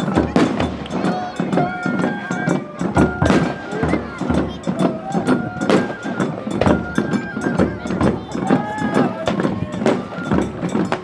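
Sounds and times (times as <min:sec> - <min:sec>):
music with sharp beats: 0:00.0 - 0:11.0
voices: 0:00.0 - 0:11.0.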